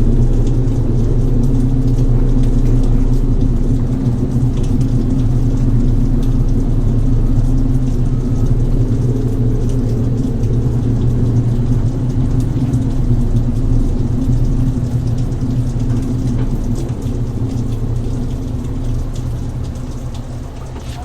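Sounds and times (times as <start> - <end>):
raindrop ticks: 0.0 - 21.0
vehicle engine idling: 0.0 - 21.0.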